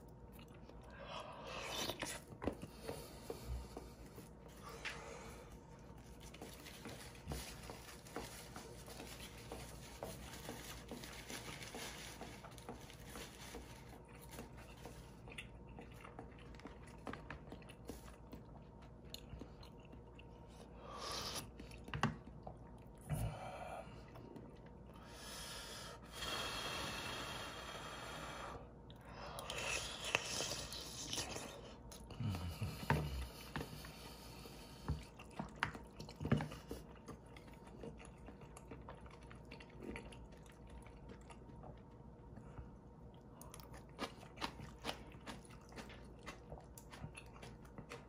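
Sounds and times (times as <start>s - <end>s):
chewing noodles: 0.0s - 23.2s, 28.8s - 48.0s.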